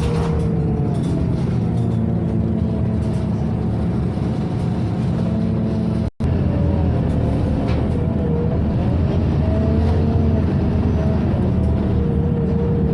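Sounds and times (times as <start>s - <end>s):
bus engine and blowers humming: 0.0s - 12.9s.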